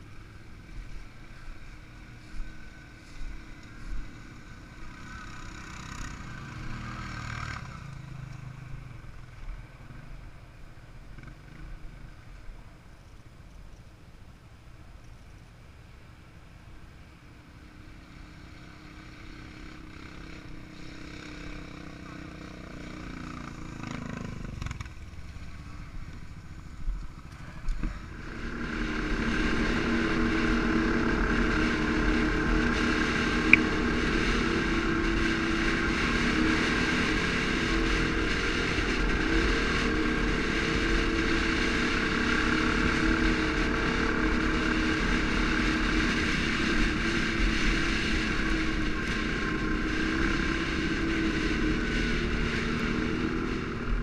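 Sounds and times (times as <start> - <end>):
atv engine running: 0.0 - 13.6, 15.1 - 54.0.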